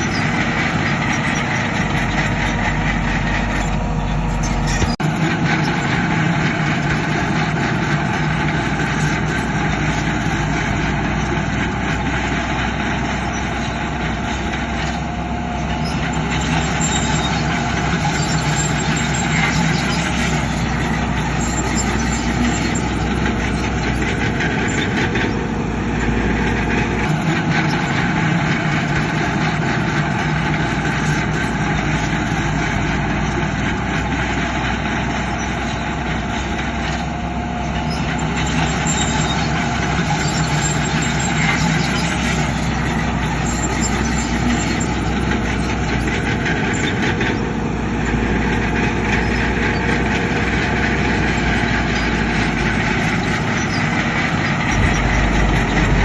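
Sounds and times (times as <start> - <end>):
diesel machinery engine rumbling: 0.0 - 56.0.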